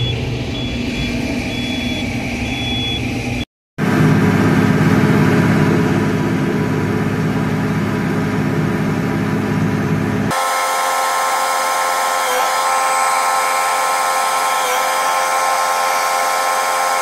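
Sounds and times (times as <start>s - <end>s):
combine harvester engine drone: 0.0s - 17.0s
higher machine sound: 0.0s - 17.0s.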